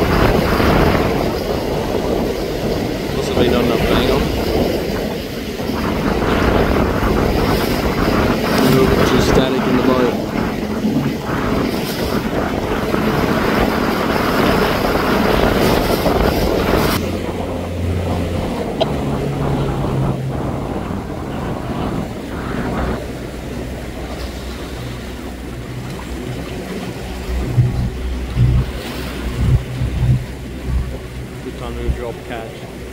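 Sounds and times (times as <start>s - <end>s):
water noise from moving boat: 0.0s - 32.9s
wind rushing over microphone: 0.0s - 32.9s.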